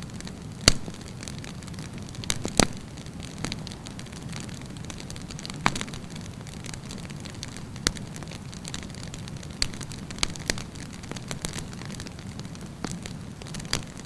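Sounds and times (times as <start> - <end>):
campfire flames rumbling: 0.0 - 14.0
fire crackling and popping: 0.0 - 14.0.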